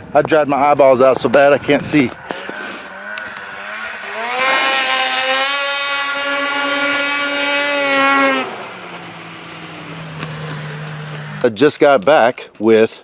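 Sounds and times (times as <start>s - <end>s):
small engine revving: 1.0s - 12.1s.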